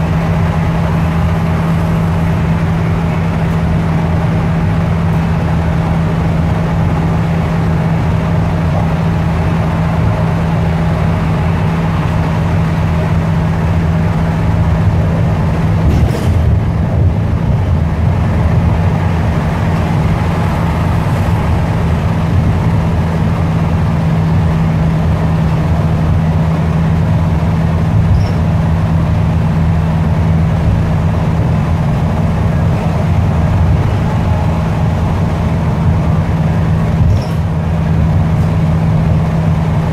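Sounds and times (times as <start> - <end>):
bus engine droning: 0.0 - 39.9
tyre noise on wet road: 0.0 - 39.9.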